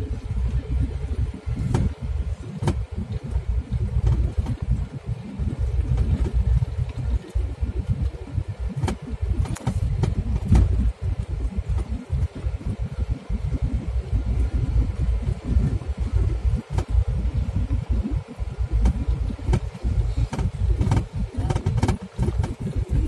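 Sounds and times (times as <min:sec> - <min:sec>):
vehicle cabin rumble: 0:00.0 - 0:23.0
body knocks and rattles: 0:01.5 - 0:23.0.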